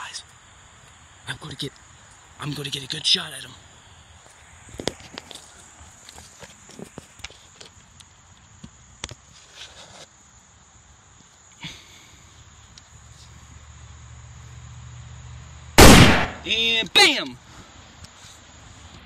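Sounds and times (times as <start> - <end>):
high insect trill: 0.0 - 19.0.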